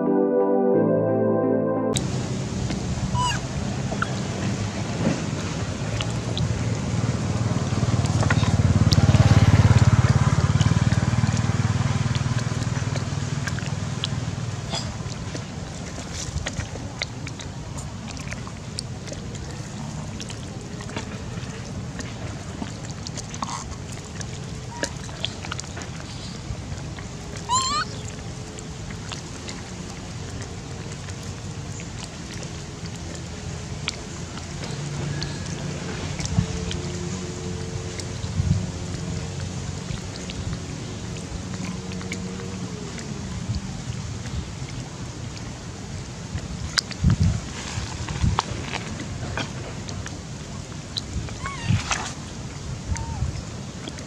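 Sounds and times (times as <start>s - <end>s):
low engine hum: 2.0s - 54.0s.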